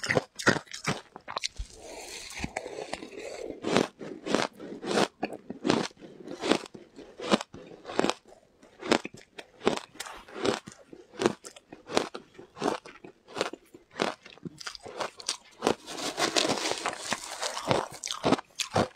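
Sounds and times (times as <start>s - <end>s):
ice crunching being chewed: 0.0s - 18.9s.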